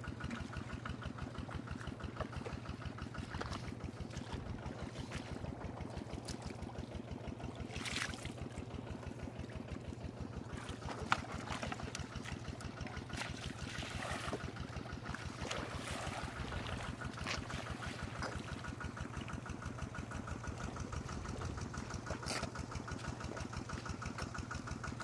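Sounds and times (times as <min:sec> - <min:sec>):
muddy water splashing: 0:00.0 - 0:25.0
small engine throbbing: 0:00.0 - 0:25.0.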